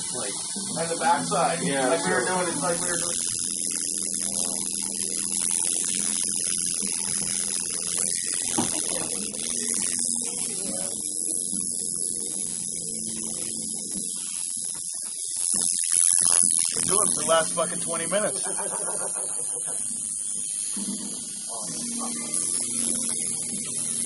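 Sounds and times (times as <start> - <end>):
tattoo machine buzzing: 0.0 - 24.0.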